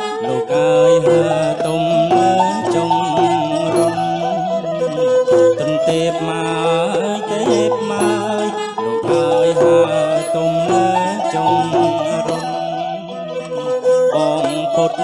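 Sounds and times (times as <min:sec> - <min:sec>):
hand drum: 0:00.0 - 0:15.0
man singing into a microphone: 0:00.0 - 0:15.0
wavering folk melody: 0:00.0 - 0:15.0.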